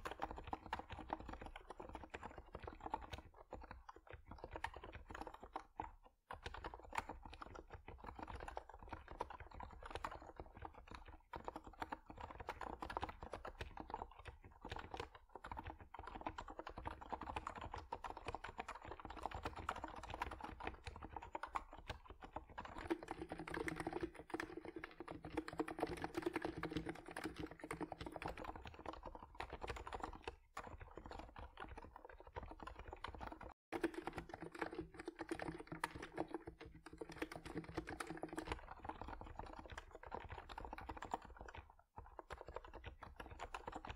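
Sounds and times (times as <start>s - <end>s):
muted keyboard typing: 0.0s - 43.9s.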